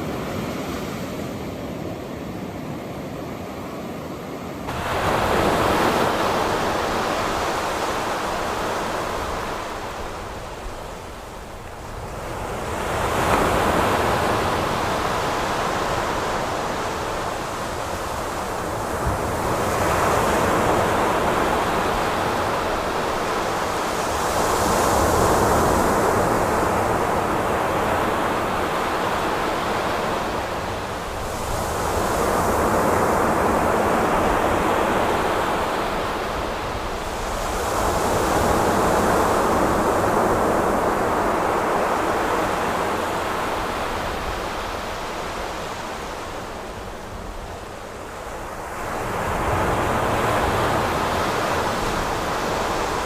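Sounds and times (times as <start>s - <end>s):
waves breaking on shore: 0.0s - 53.0s.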